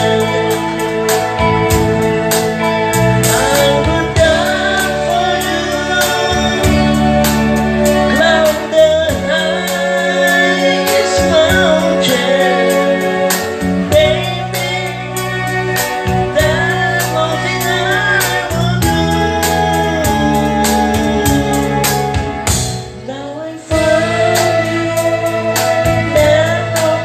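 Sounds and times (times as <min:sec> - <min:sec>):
steady drum beat: 0:00.0 - 0:23.1, 0:23.7 - 0:27.0
band playing a song: 0:00.0 - 0:27.0
held bass notes: 0:00.0 - 0:27.0
person singing: 0:00.0 - 0:27.0.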